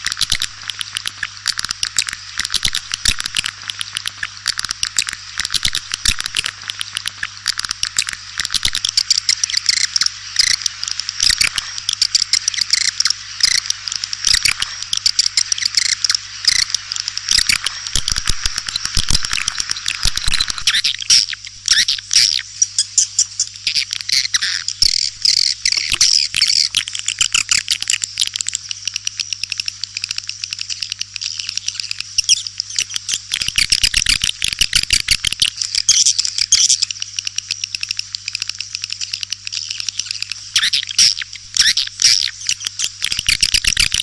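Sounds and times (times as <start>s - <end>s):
birds twittering: 0.0s - 44.0s.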